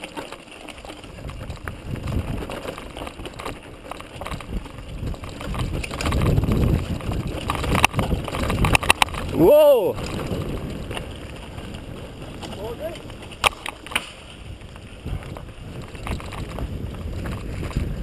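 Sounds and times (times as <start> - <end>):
bike knocks and rattles: 0.0 - 18.0
tyres rumbling on dirt: 0.0 - 18.0
wind buffeting microphone: 0.9 - 18.0.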